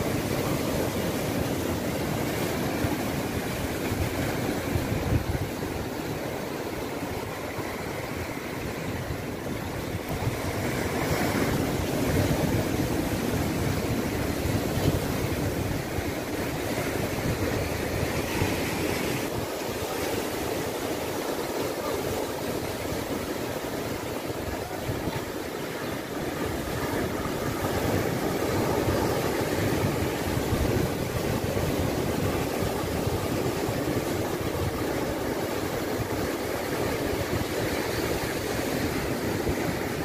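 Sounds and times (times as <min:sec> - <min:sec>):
ocean surf breaking over rocks: 0:00.0 - 0:40.0
wind rumbling on microphone: 0:00.0 - 0:40.0.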